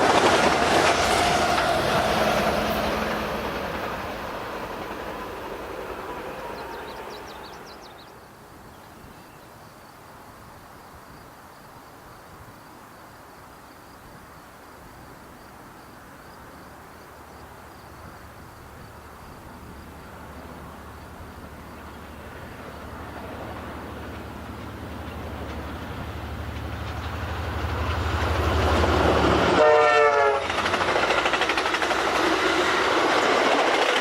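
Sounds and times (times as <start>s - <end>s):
passing train: 0.0s - 34.0s
insect chirping: 1.0s - 29.4s.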